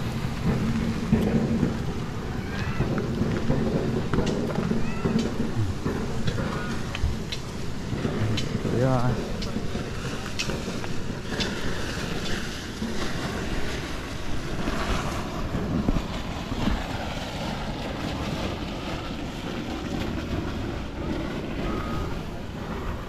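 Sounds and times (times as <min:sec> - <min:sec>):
rushing water: 0:00.0 - 0:23.0
wind buffeting microphone: 0:00.0 - 0:23.0.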